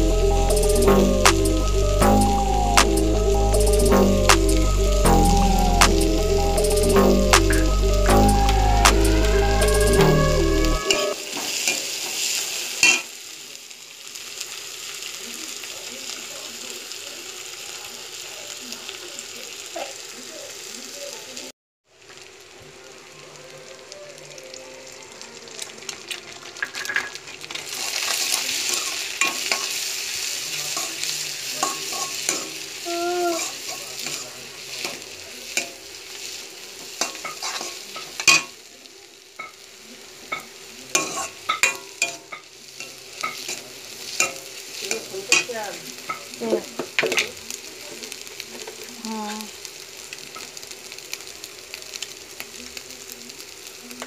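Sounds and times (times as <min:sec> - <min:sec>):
vegetables sizzling in hot oil: 0:00.0 - 0:54.0.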